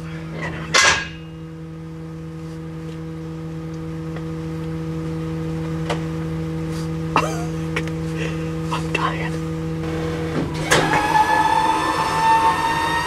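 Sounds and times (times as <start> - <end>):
pitched mechanical hum: 0.0 - 13.0.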